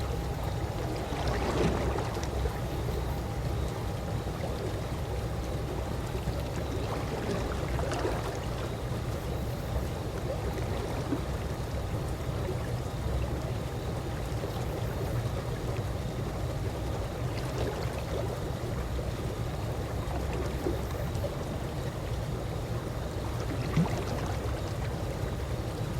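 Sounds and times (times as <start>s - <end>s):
pool water lapping: 0.0s - 25.9s.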